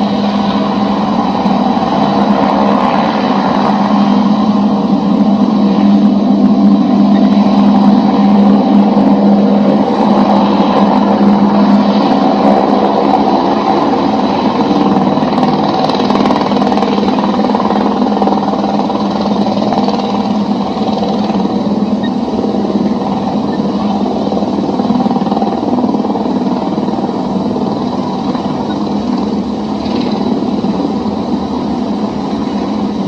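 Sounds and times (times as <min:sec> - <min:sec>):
helicopter turbine and rotor: 0:00.0 - 0:33.0.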